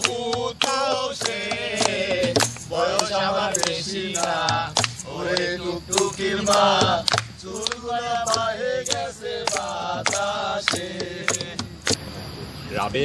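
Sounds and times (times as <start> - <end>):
men singing: 0.0 - 11.9.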